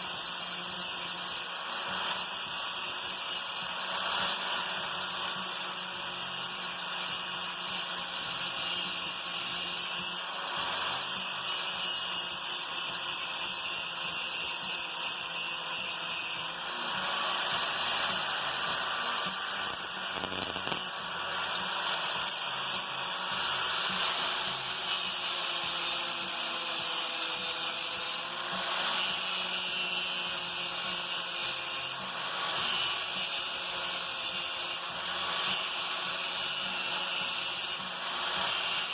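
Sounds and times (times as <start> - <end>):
electric grinder grinding metal: 0.0 - 38.9.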